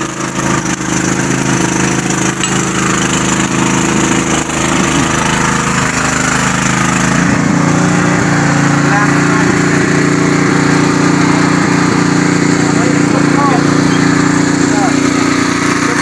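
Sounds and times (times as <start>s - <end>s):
petrol generator running: 0.0s - 16.0s.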